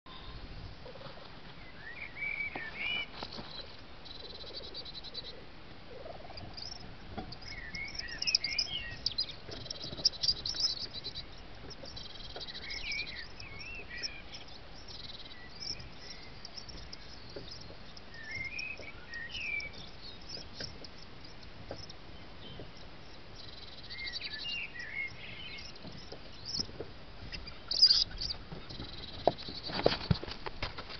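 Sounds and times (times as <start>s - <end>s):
songbirds warbling: 1.6s - 30.2s
high trilling bird calls: 1.7s - 20.8s, 23.4s - 26.7s, 27.3s - 29.7s.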